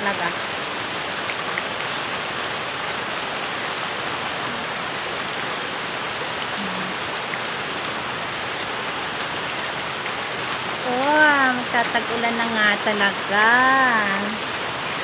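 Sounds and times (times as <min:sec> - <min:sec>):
rain pouring on trees: 0:00.0 - 0:15.0.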